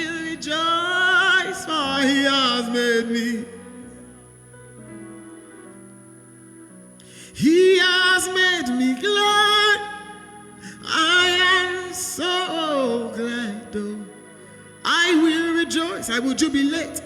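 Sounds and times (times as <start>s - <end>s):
person singing: 0.0s - 5.9s, 7.1s - 17.0s.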